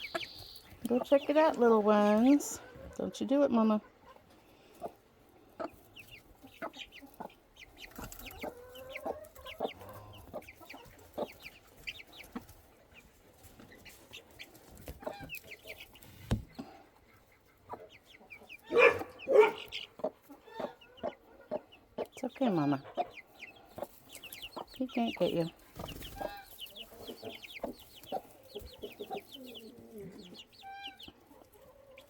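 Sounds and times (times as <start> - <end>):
chicks peeping: 0.0 - 32.0
hen clucking: 0.0 - 32.0.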